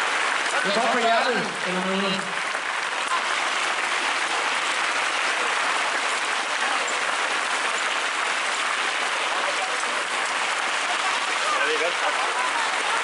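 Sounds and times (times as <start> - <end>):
spectators applauding: 0.0 - 13.0.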